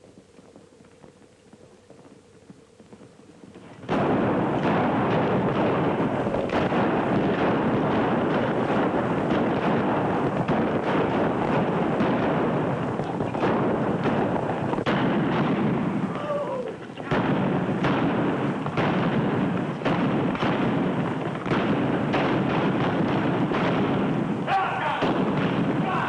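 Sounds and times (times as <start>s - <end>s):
galloping horses' hooves: 0.0s - 23.9s
revolver gunshots: 3.8s - 26.0s.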